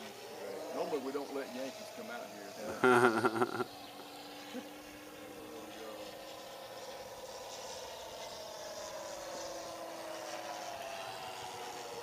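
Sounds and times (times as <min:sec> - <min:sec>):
simulated piston aircraft engine: 0:00.0 - 0:12.0.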